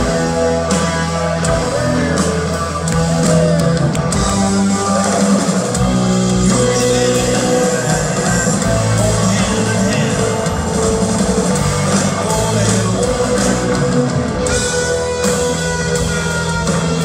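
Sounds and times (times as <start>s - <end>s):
drums: 0.0s - 17.0s
electric bass: 0.0s - 17.0s
electric guitar: 0.0s - 17.0s.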